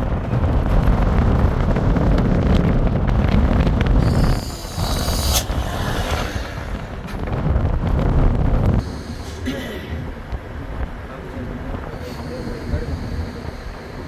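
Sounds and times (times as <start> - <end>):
vehicle rumbling: 0.0 - 14.0.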